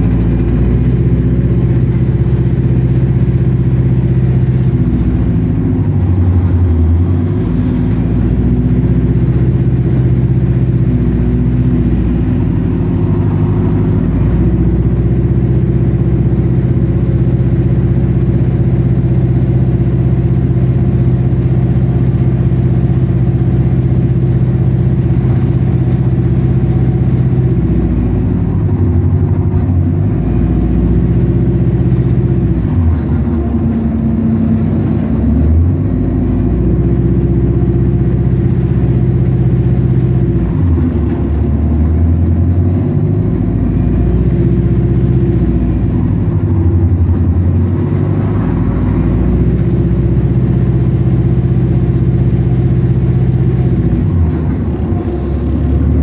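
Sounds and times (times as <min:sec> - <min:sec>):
bus engine humming: 0:00.0 - 0:56.0.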